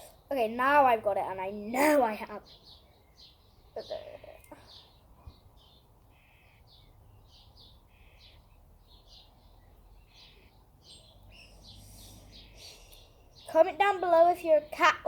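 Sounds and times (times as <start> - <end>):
faint songbirds chirping: 0.0 - 15.0.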